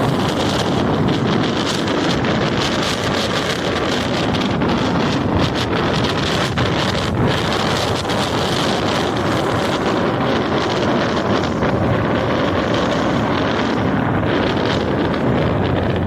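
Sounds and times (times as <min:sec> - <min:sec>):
rough surf washing on shore: 0:00.0 - 0:16.0
wind buffeting microphone: 0:00.0 - 0:16.0.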